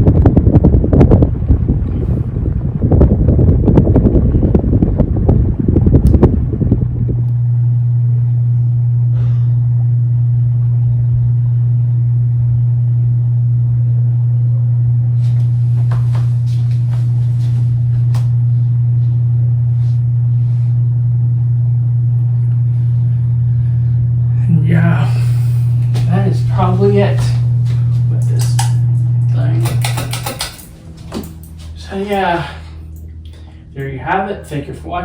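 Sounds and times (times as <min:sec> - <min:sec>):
ceiling fan motor humming: 0:00.0 - 0:35.0.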